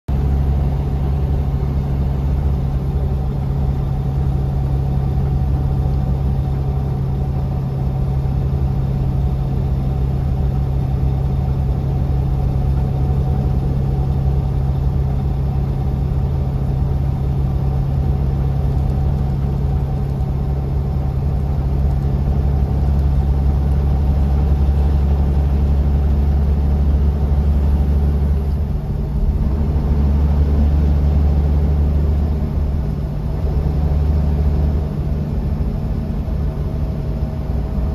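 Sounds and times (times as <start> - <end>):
bus engine drone: 0.1 - 37.9.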